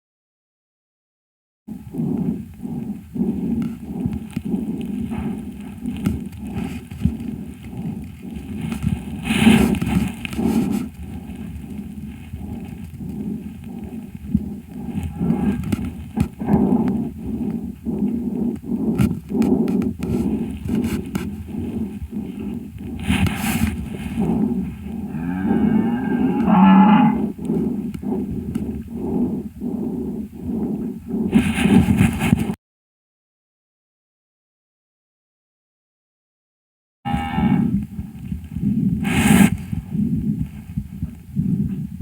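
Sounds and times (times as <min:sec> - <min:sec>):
calf breathing rapidly: 0:01.7 - 0:32.6, 0:37.4 - 0:42.0.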